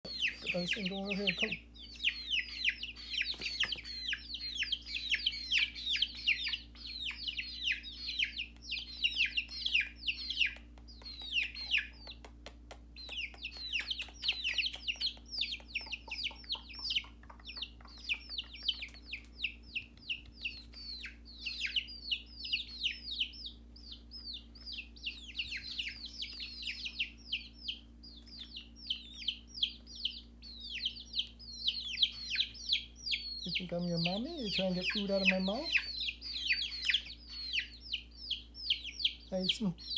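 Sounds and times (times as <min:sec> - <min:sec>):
chicks peeping: 0:00.0 - 0:39.9
faint steady hum: 0:00.0 - 0:39.9.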